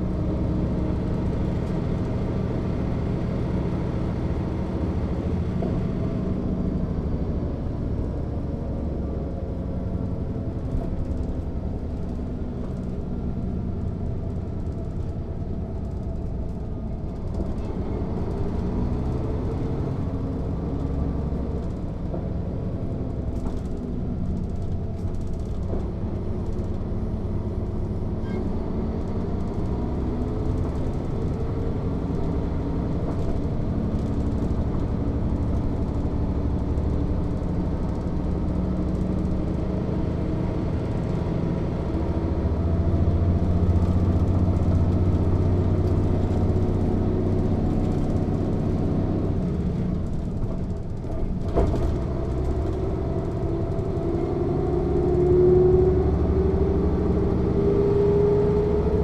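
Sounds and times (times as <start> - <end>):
diesel bus engine rumbling: 0.0 - 59.0.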